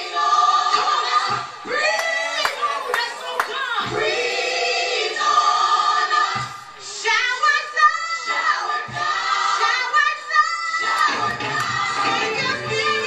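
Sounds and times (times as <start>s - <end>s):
gospel choir singing with music: 0.0s - 13.0s.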